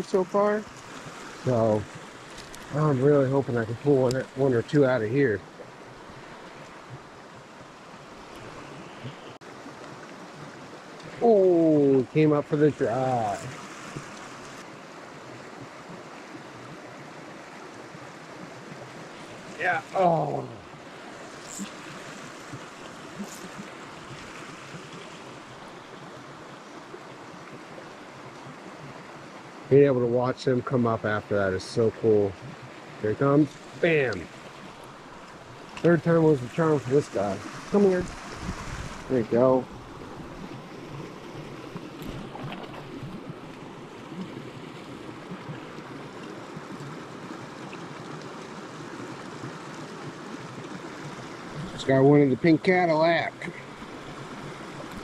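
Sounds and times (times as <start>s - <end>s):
creek babbling over stones: 0.0s - 55.0s
stream running over rocks: 0.0s - 55.0s.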